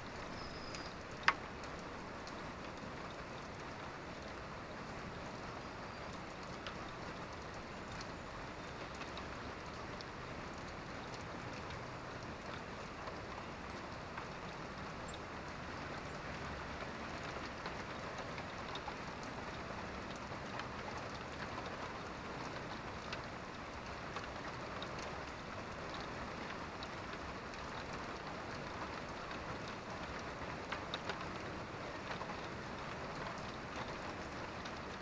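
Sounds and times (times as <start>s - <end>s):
raindrop ticks: 0.0s - 35.0s
steady rainfall: 0.0s - 35.0s.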